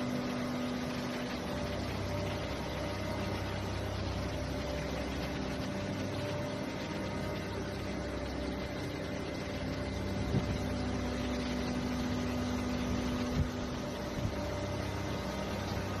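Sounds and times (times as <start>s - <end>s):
motor hum: 0.0s - 16.0s.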